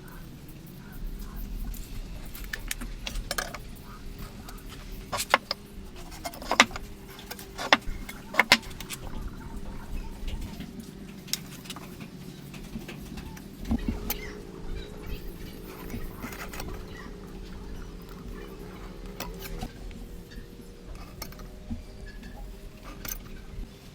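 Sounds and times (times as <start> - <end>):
low steady hum: 0.0 - 23.9
woodworking tools clicking: 0.0 - 23.9
wooden poles knocking: 2.4 - 23.7.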